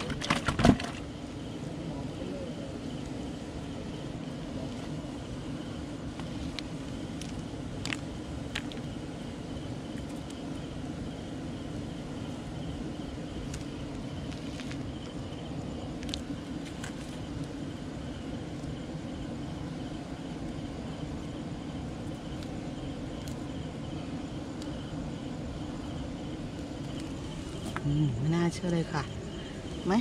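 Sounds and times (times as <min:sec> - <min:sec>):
high insect trill: 0:00.0 - 0:30.0.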